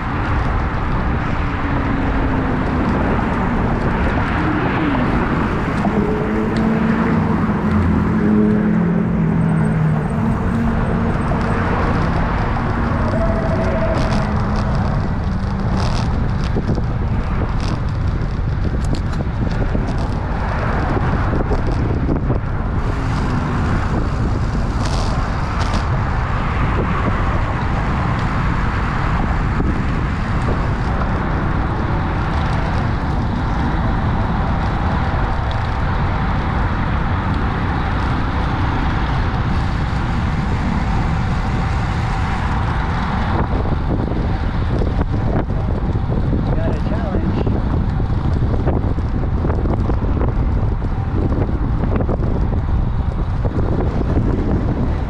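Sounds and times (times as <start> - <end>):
moving vehicle rumble and hiss: 0.0 - 55.0.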